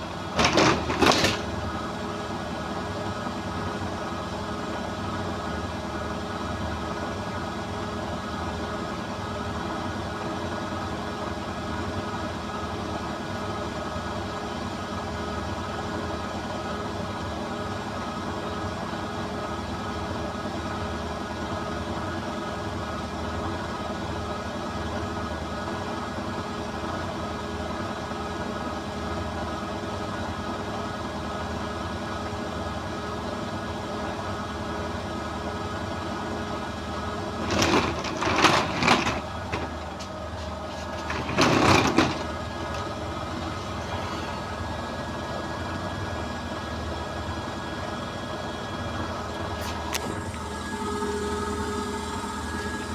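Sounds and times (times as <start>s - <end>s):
washing machine motor hum: 0.0s - 21.5s, 26.7s - 52.9s.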